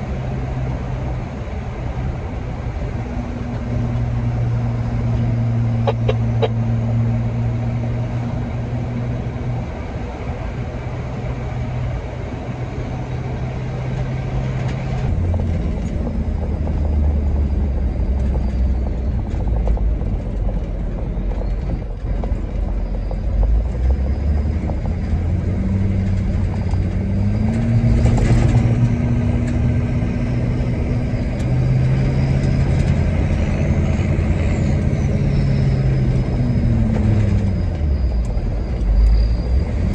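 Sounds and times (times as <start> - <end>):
road rumble: 0.0 - 39.9
vehicle engine running: 0.0 - 39.9.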